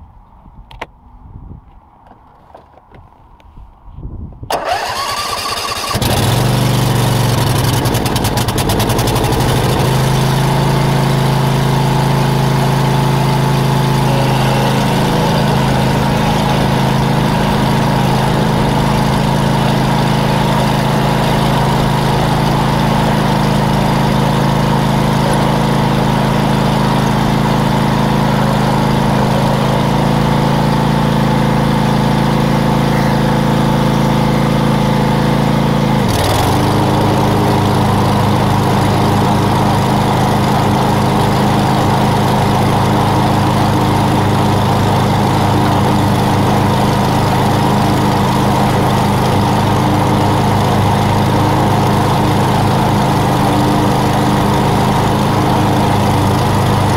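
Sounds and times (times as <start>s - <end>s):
lawn mower engine: 4.5s - 56.9s.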